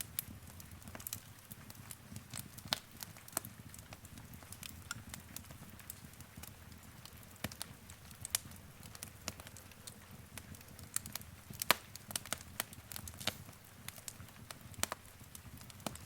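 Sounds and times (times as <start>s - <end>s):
fire crackling: 0.0s - 16.0s
low rumble of flames: 0.0s - 16.0s.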